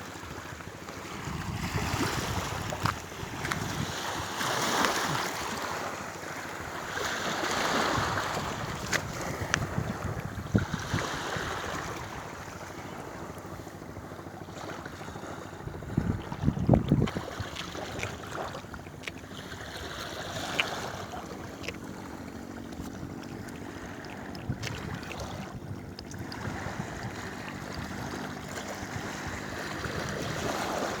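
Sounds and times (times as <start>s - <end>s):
seawater lapping on rocky shore: 0.0s - 31.0s.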